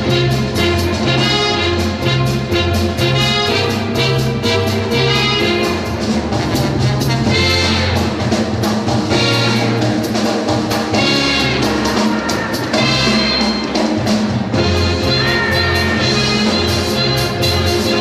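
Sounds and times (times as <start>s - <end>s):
brass band music with drums: 0.0s - 18.0s.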